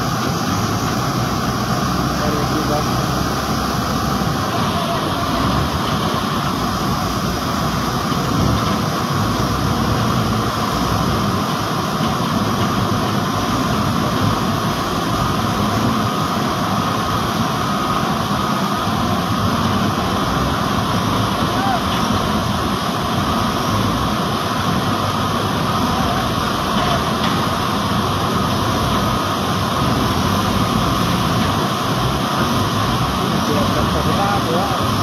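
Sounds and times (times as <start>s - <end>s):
bulldozer diesel engine running: 0.0s - 35.0s
water rushing over weir: 0.0s - 35.0s.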